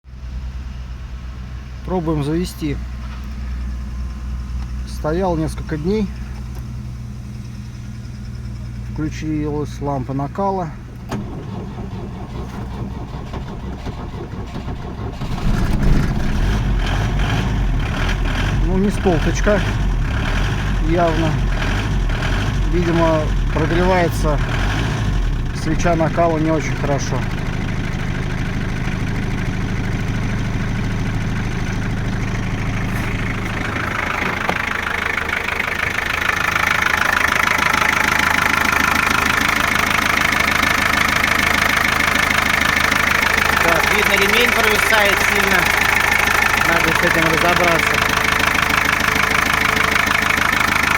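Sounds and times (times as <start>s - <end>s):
diesel engine cranking and starting: 0.1s - 50.9s.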